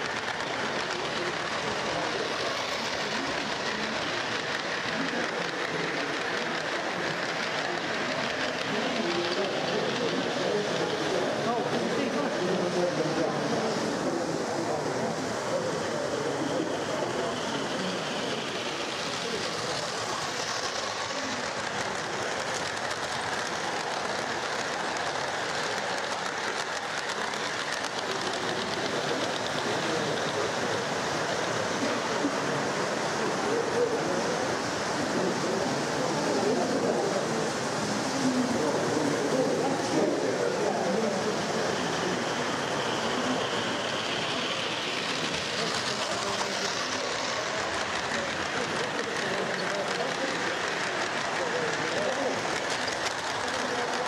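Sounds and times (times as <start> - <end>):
model train rumbling: 0.0 - 54.0.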